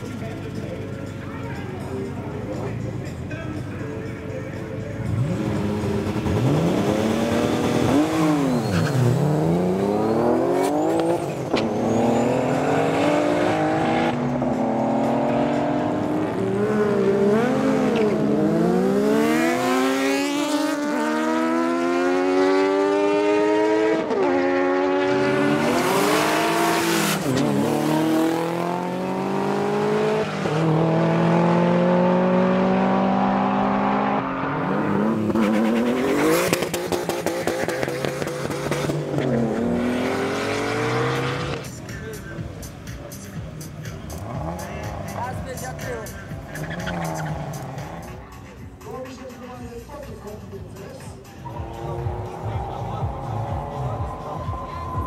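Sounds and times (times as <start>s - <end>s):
drag car engines accelerating: 5.0s - 48.3s, 50.6s - 55.0s.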